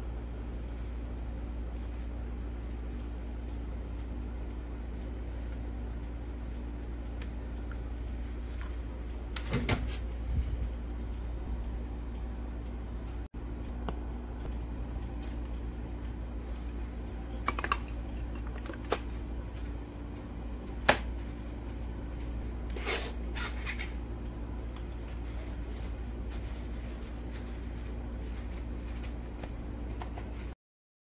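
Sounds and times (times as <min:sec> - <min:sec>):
low steady hum: 0:00.0 - 0:30.6.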